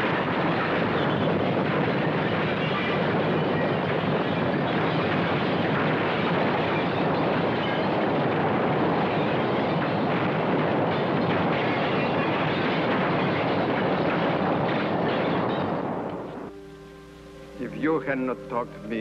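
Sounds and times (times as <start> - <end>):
continuous earthquake rumble noise: 0.0 - 18.5.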